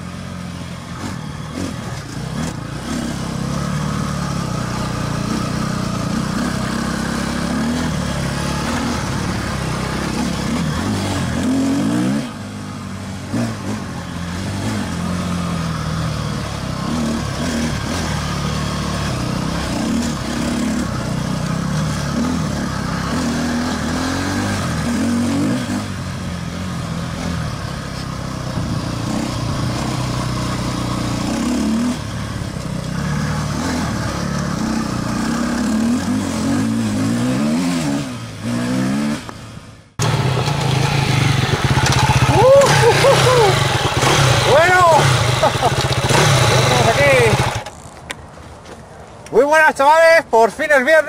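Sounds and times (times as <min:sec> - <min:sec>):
motorcycle engine running steadily: 0:00.0 - 0:25.2, 0:25.8 - 0:35.8, 0:39.2 - 0:48.1
motorcycle engine revving: 0:00.0 - 0:48.1.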